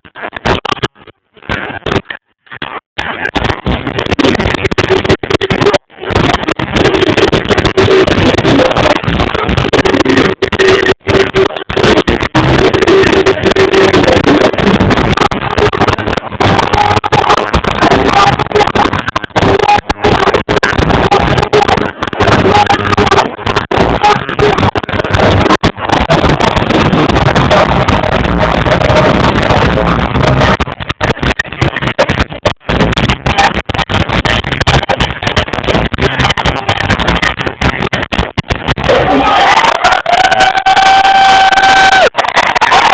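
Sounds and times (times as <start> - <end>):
distorted live reggae band music: 0.0 - 42.9.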